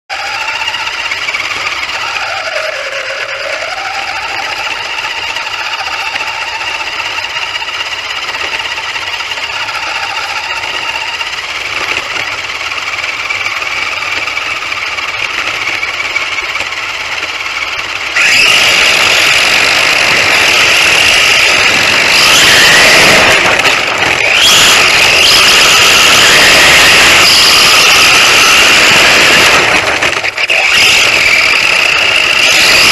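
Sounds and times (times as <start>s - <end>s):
rc truck motor running: 0.1s - 32.9s
tyre and road noise: 0.1s - 32.9s.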